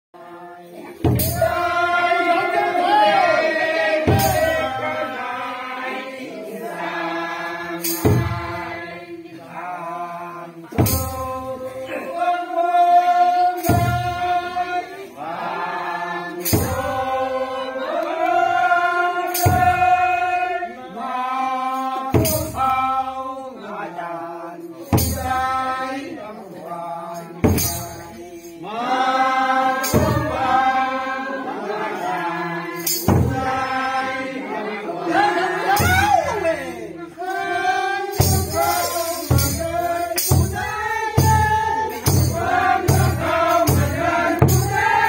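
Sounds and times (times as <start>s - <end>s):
group singing chant-like song: 0.2s - 45.0s.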